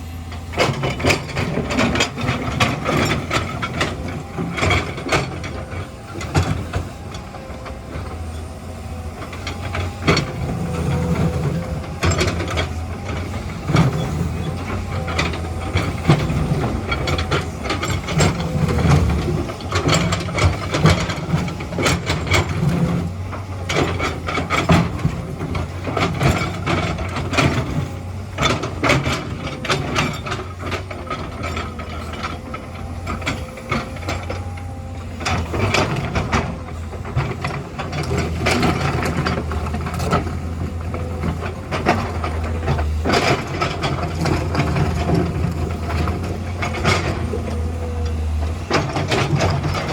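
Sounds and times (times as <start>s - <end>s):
excavator diesel engine drone: 0.0s - 49.9s
rock and steel bucket clanking: 8.9s - 49.9s.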